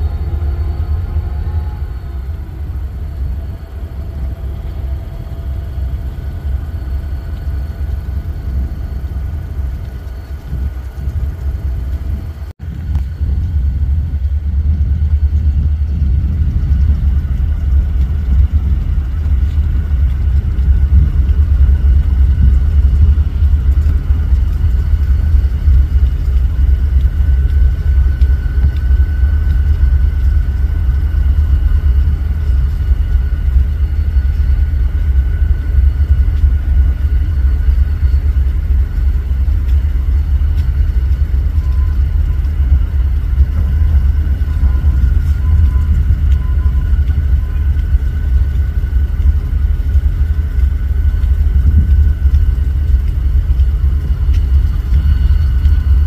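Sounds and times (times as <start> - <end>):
diesel locomotive engine rumble: 0.0 - 56.0
faint high whine: 0.0 - 56.0.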